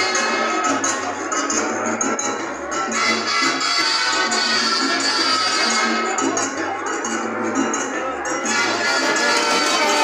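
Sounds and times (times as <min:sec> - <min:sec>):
salsa orchestra playing: 0:00.0 - 0:01.4, 0:02.0 - 0:07.1, 0:08.4 - 0:10.0
bass line: 0:00.0 - 0:10.0.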